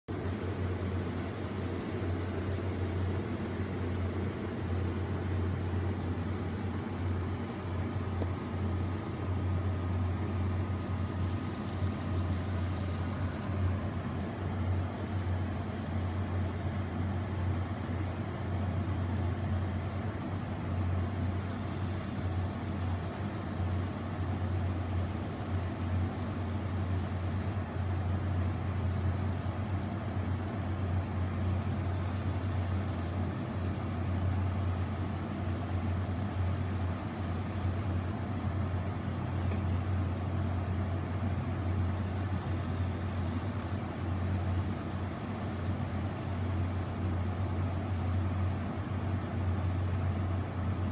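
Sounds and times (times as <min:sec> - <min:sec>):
low machine hum: 0:00.0 - 0:50.9
noisy rumble: 0:00.0 - 0:50.9
faint thin whine: 0:00.1 - 0:50.9.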